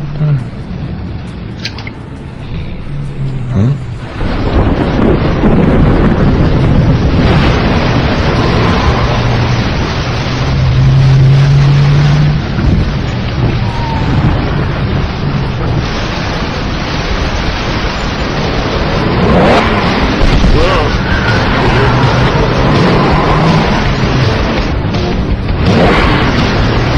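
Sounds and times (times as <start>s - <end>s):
heavy rain: 0.0s - 26.9s
thunder rumbling: 0.0s - 26.9s.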